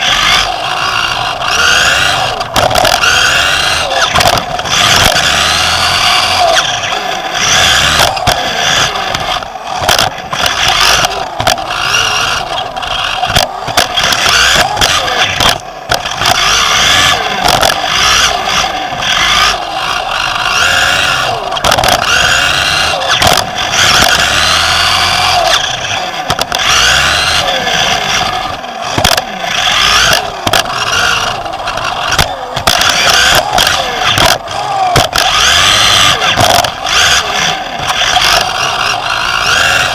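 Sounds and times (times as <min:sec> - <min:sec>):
sharp knocks from landings: 0:00.0 - 0:19.6, 0:20.3 - 0:39.9
electric motor whining: 0:00.0 - 0:39.9.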